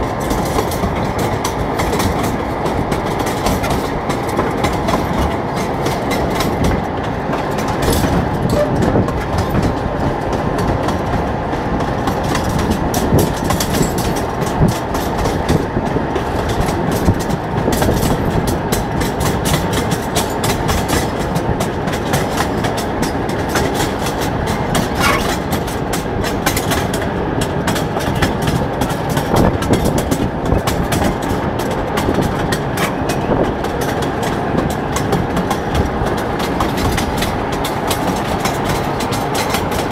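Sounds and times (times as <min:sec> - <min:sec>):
wheels clattering over rails: 0:00.0 - 0:39.9.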